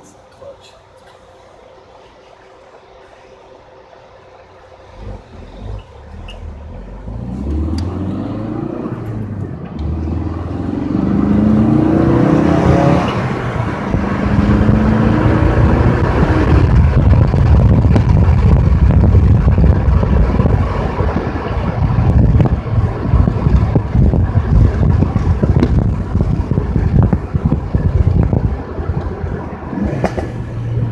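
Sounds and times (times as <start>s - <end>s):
road noise: 0.0s - 30.9s
car engine revving and accelerating: 4.8s - 30.9s.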